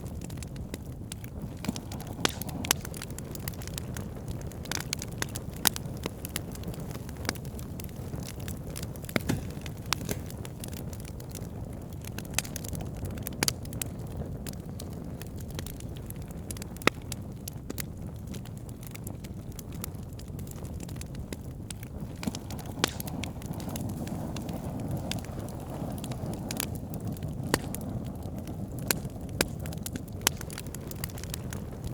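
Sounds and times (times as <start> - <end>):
burning wood crackling and popping: 0.0 - 31.9
campfire flames rumbling: 0.0 - 31.9.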